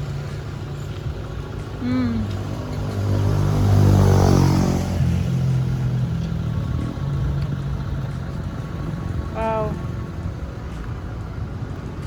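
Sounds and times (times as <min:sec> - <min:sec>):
vehicle engine passing by: 0:00.0 - 0:11.0.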